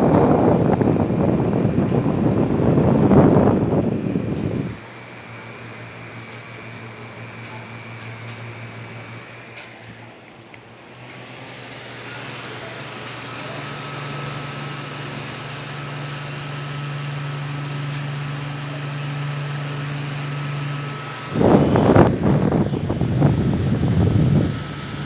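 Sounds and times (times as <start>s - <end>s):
electric fan running: 0.0s - 25.0s.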